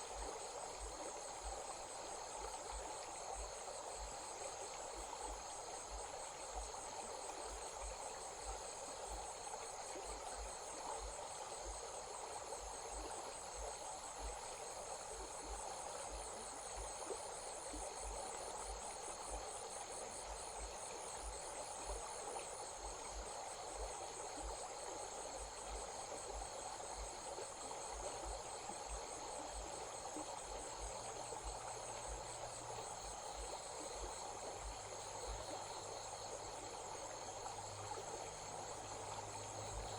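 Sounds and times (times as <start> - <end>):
crickets trilling: 0.0 - 39.9
flowing stream: 0.0 - 39.9.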